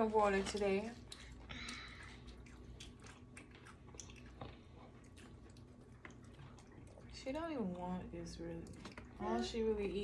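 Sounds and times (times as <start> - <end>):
chewing food: 0.2 - 9.9.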